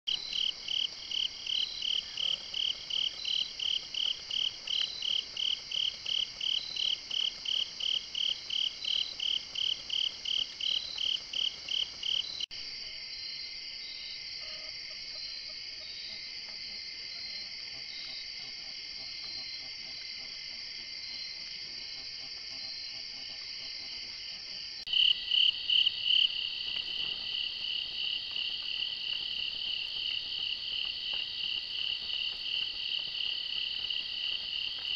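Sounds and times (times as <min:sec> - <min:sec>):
crickets pulsing chirp: 0:00.1 - 0:34.9.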